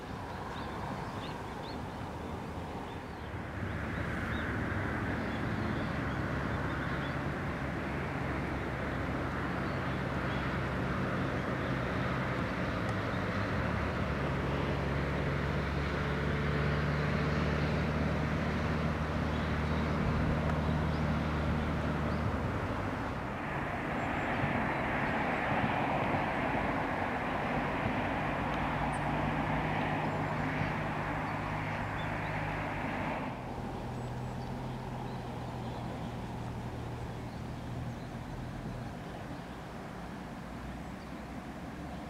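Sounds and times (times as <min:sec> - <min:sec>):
distant engine drone: 0:00.0 - 0:42.0.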